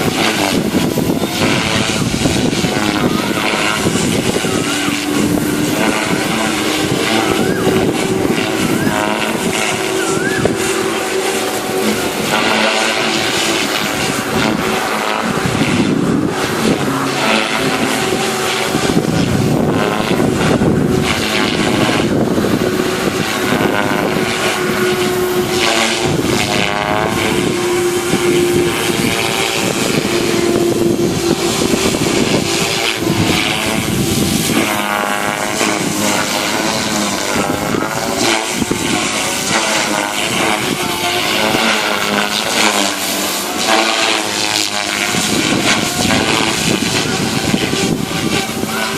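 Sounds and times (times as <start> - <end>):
loud rushing noise: 0.0 - 48.9
model helicopter rotor whine: 0.0 - 48.9.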